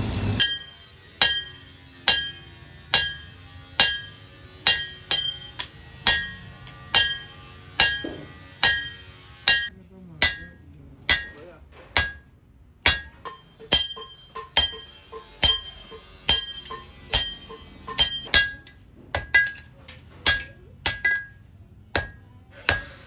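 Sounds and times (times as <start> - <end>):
hammer striking metal on anvil: 0.4 - 23.0.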